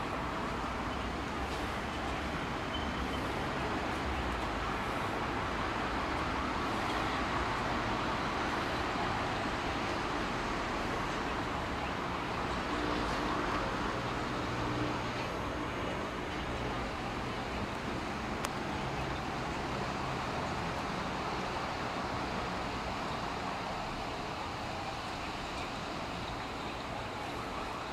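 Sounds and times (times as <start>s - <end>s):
distant road traffic hum: 0.0s - 27.9s.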